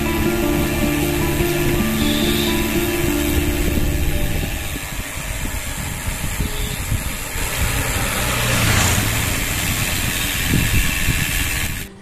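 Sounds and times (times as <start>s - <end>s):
bicycle road noise: 0.0s - 12.0s
wind buffeting microphone: 0.0s - 12.0s.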